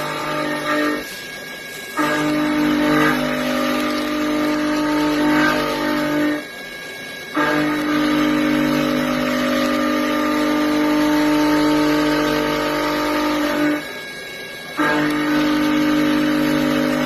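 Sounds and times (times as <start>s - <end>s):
cnc machine running: 0.0s - 17.0s.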